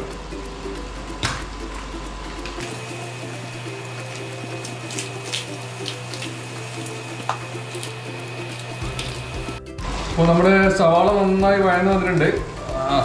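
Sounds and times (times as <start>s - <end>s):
onions frying in oil: 0.0s - 13.0s
soft background music: 0.0s - 13.0s.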